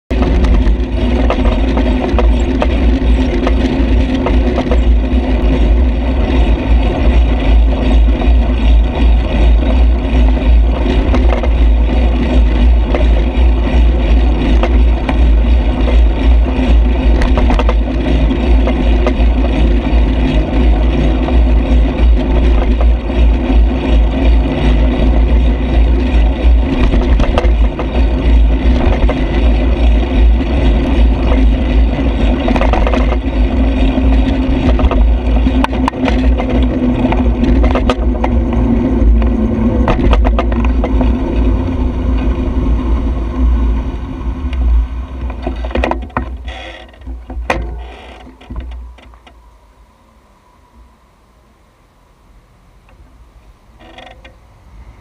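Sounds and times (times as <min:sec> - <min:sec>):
motor traffic: 0:00.0 - 0:55.0
wind rumble: 0:00.1 - 0:55.0.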